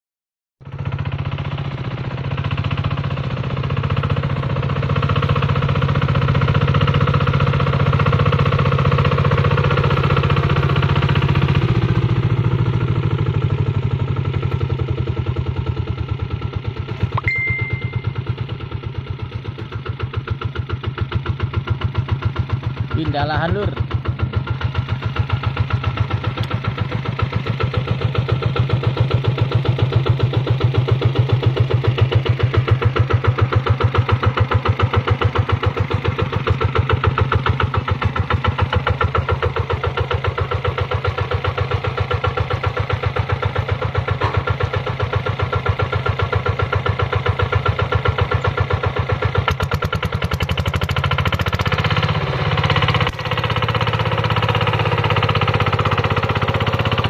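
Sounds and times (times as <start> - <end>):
diesel engine chugging: 0.6 - 57.0.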